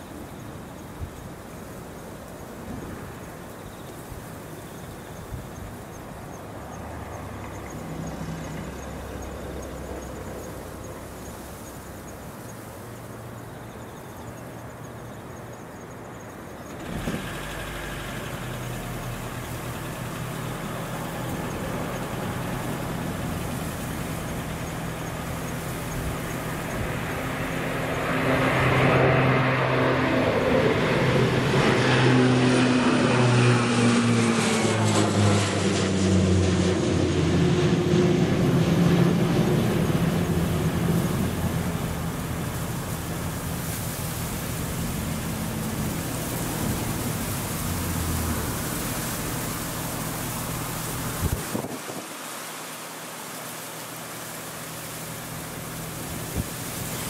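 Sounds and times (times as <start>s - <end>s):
jet airliner engine noise: 0.0s - 57.0s.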